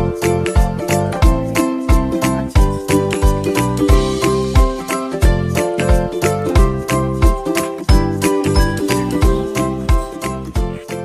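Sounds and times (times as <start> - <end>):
music with jingly melody: 0.0 - 11.0.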